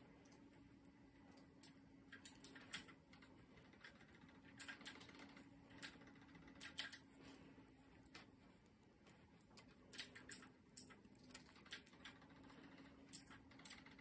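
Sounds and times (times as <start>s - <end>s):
faint steady hum: 0.0s - 14.0s
knitting needles clicking: 1.3s - 7.4s, 8.0s - 14.0s.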